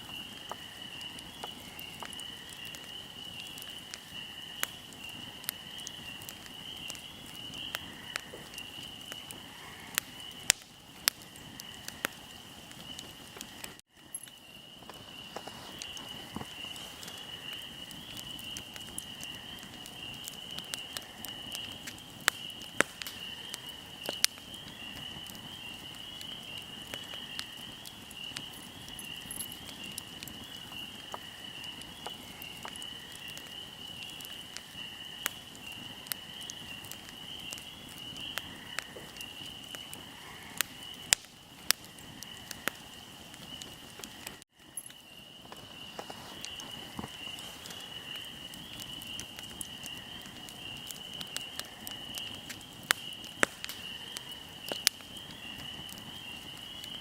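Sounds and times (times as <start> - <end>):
fire crackling and popping: 0.0 - 57.0
insects chirring: 0.0 - 57.0.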